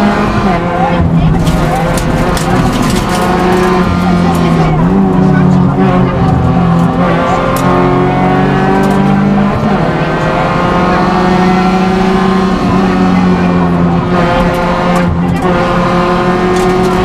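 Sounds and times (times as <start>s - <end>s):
rally car engine running hard: 0.0s - 17.0s.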